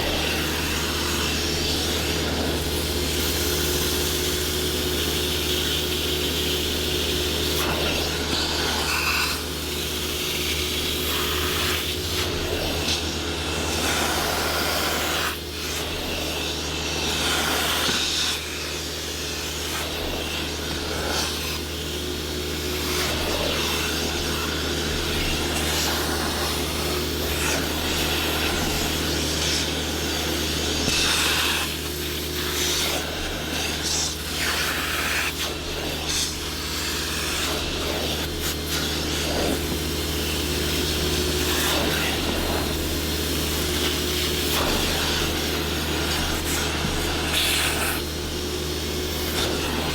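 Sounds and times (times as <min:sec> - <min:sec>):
electric motor humming: 0:00.0 - 0:49.9
hissing and scrubbing upholstery: 0:00.0 - 0:49.9.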